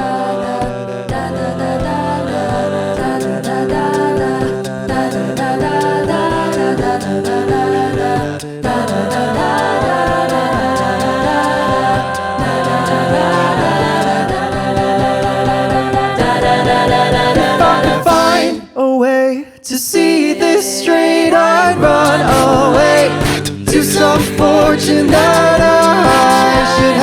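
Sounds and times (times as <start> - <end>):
group singing in harmony: 0.0 - 27.0
vocal percussion beat: 0.0 - 27.0.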